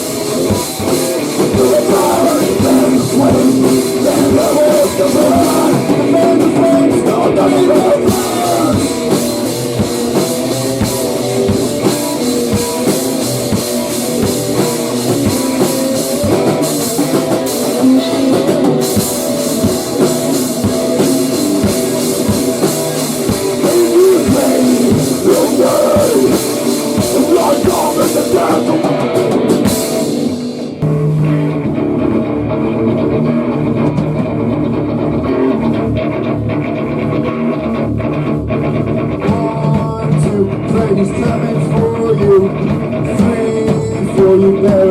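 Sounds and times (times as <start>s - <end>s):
drum kit: 0.0s - 36.1s, 38.6s - 44.9s
electric guitar: 0.0s - 44.9s.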